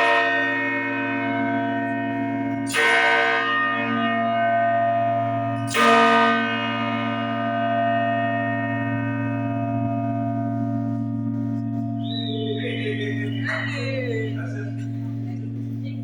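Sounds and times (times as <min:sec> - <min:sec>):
church bell tolling: 0:00.0 - 0:16.0.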